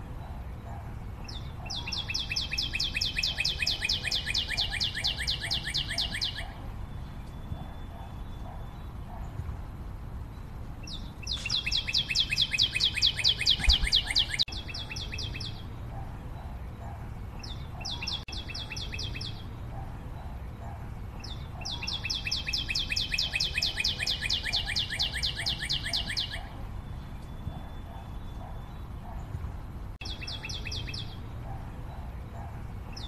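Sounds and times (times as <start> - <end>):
songbird trills: 0.0 - 9.4, 10.3 - 29.4, 30.0 - 33.0
low steady background rumble: 0.0 - 33.0.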